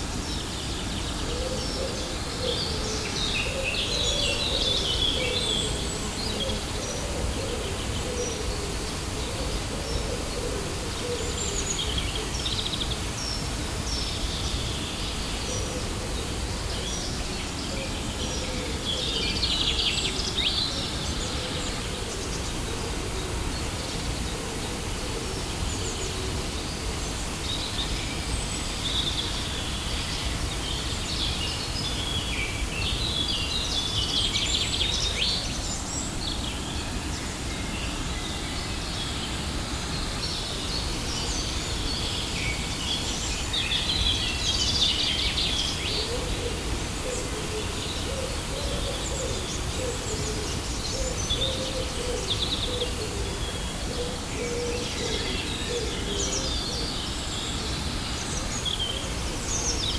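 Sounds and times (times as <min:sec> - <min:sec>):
songbirds chirping: 0:00.1 - 0:59.9.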